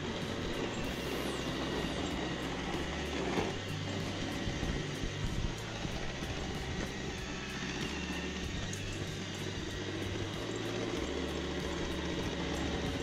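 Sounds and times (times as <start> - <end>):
background music with bass: 0.0 - 13.0
robot vacuum motor whir: 0.0 - 13.0.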